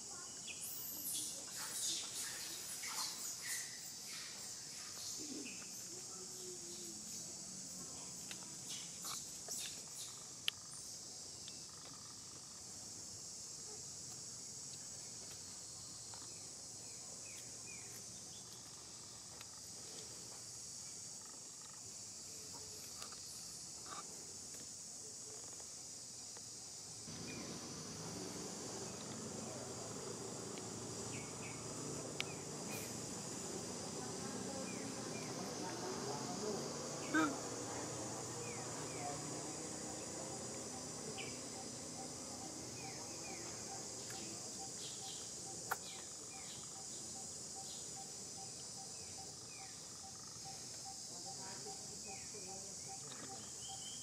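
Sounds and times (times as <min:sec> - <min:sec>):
high-pitched insect chorus: 0:00.0 - 0:54.0
low background noise: 0:00.0 - 0:54.0.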